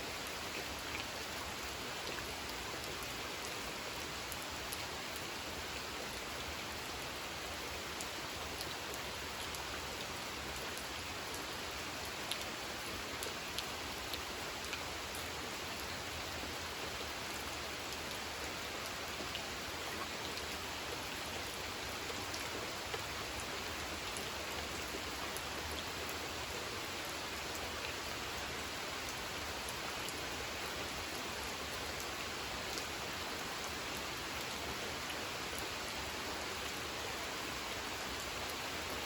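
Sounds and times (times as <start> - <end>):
rain falling on a pond: 0.0 - 39.0.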